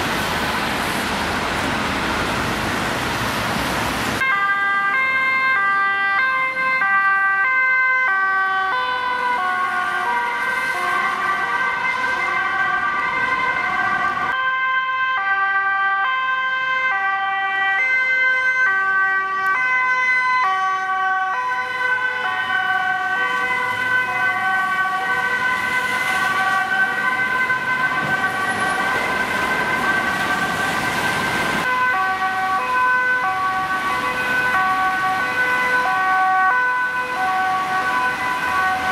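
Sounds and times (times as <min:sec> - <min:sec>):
two-tone emergency sirens: 0:04.2 - 0:38.9.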